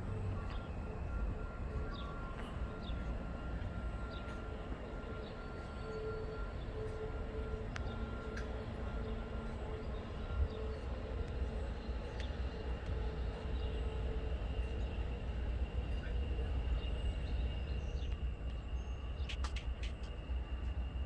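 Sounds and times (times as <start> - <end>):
distant freight train rumble: 0.0 - 21.0.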